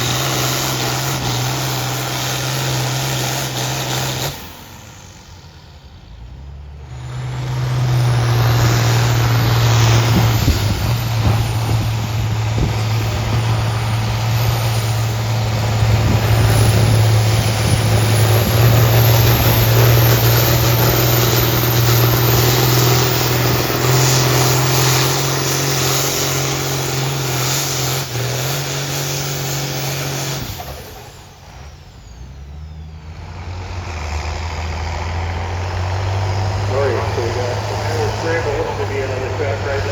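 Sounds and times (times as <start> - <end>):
tractor engine at full throttle: 0.0 - 39.9.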